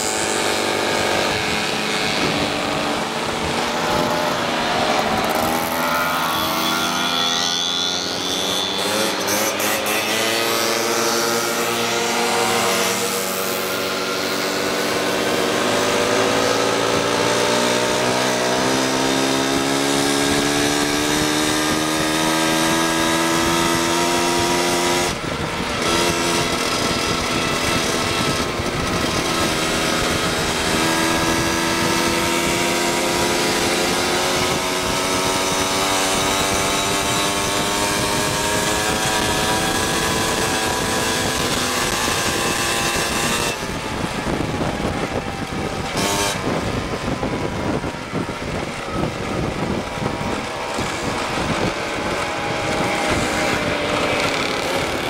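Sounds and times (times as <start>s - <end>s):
moped engine running: 0.0s - 55.0s.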